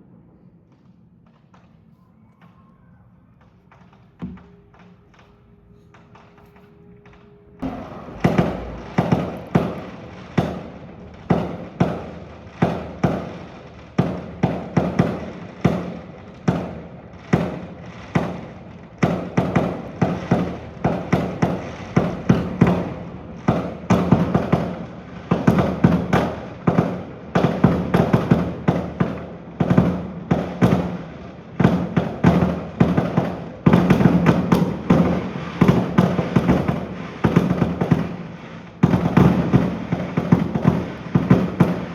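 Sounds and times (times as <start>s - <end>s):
fireworks bursting: 0.1s - 41.9s.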